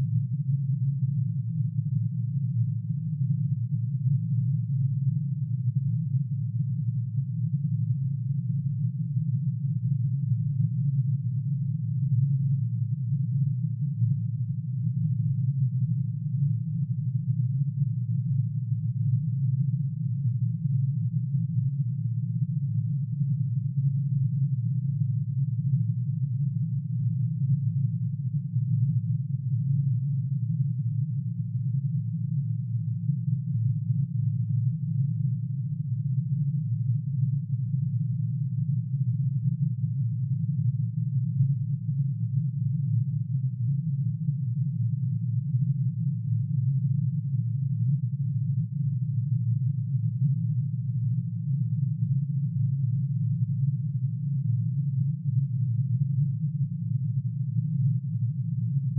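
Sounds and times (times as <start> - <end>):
low wavering sine tone hum: 0.0 - 58.9.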